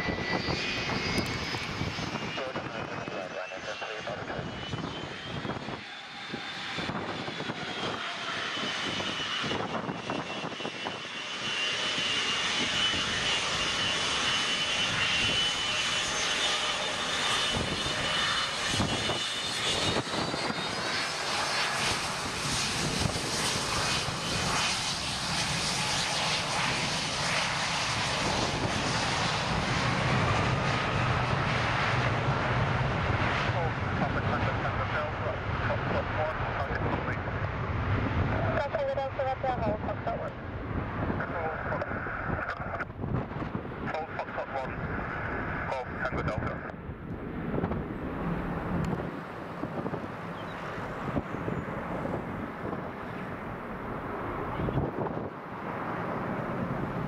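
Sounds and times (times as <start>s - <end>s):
jet engines at takeoff thrust: 0.0s - 57.0s.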